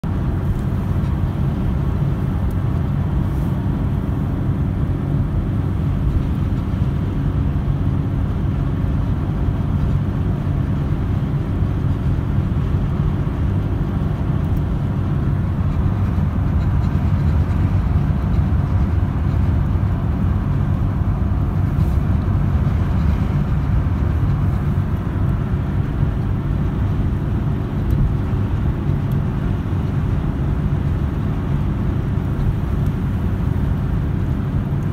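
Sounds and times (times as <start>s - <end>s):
car engine drone: 0.0s - 34.9s
road noise: 0.0s - 34.9s.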